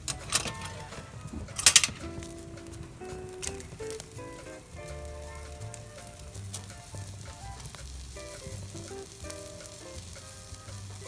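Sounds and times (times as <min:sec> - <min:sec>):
food sizzling with pops: 0:00.0 - 0:11.0.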